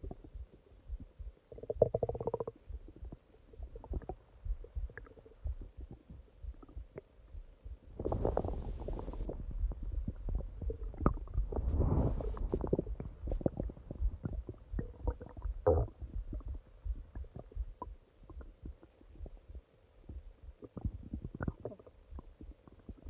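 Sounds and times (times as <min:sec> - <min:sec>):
stomach growling and gurgling: 0:00.0 - 0:07.2, 0:07.9 - 0:23.0.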